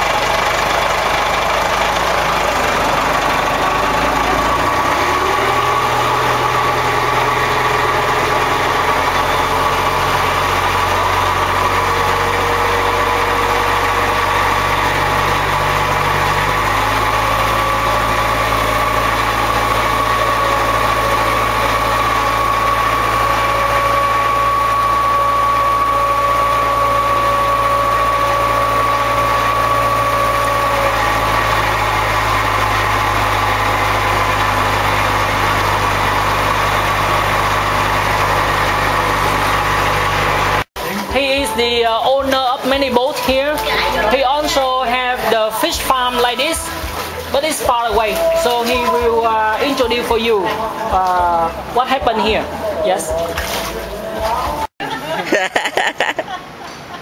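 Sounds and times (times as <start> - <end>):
motorboat engine running: 0.0 - 54.7.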